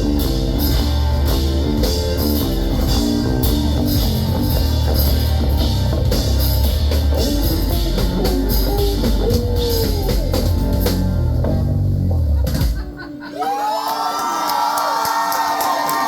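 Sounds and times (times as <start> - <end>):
live rock band playing: 0.0 - 13.4.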